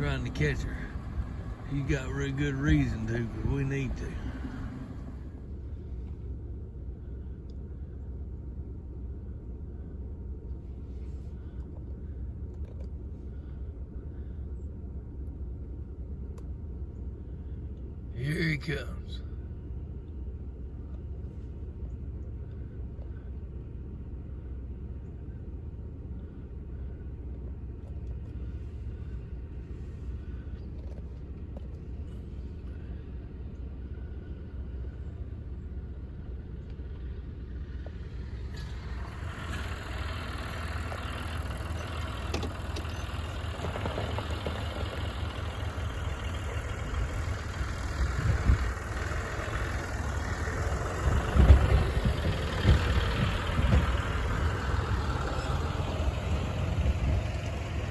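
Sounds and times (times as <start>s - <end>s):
vehicle engine rumbling: 0.0s - 57.9s.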